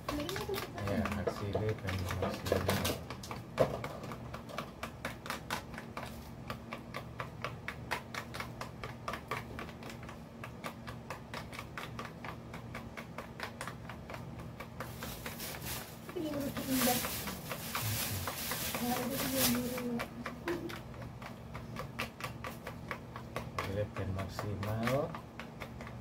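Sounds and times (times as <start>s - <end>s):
stick clicking against plastic container: 0.0s - 15.6s, 16.4s - 26.0s.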